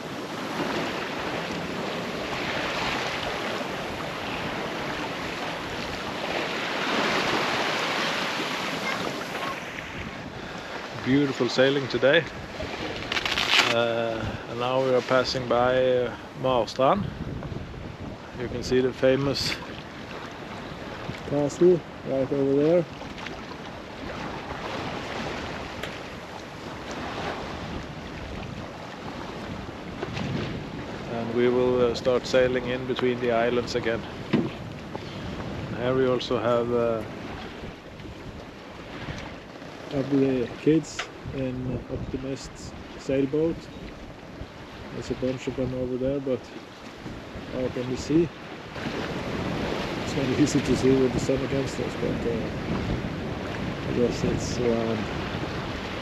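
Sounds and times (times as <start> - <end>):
water splashing along boat hull: 0.0 - 45.7, 46.4 - 56.0
wind on microphone: 0.0 - 56.0.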